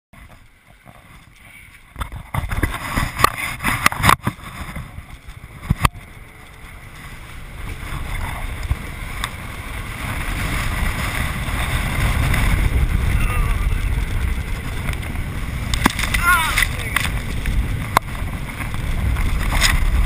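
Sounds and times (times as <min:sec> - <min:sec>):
wind on microphone: 0:00.2 - 0:20.0.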